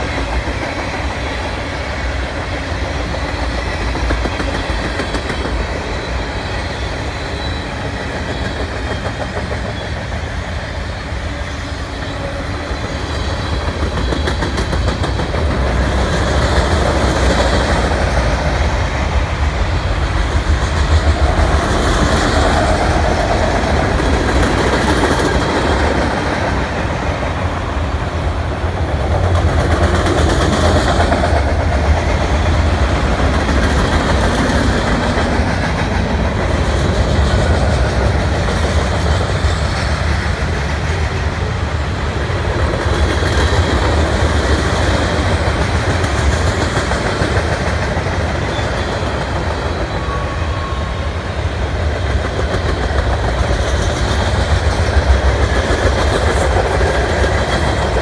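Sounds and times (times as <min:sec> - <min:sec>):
freight train cars rolling past: 0:00.0 - 0:58.0.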